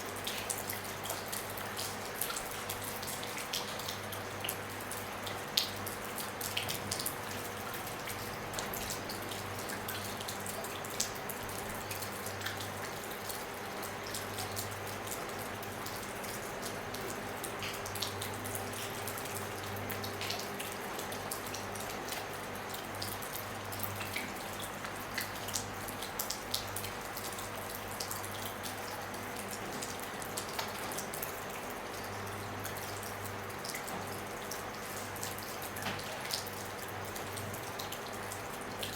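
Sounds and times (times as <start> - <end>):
rain pattering on a roof: 0.0 - 38.9
water drips ticking: 0.1 - 38.9.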